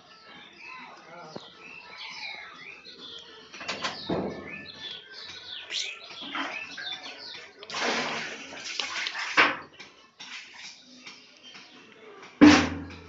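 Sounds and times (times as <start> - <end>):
small birds twittering: 0.0 - 7.7, 9.6 - 13.0.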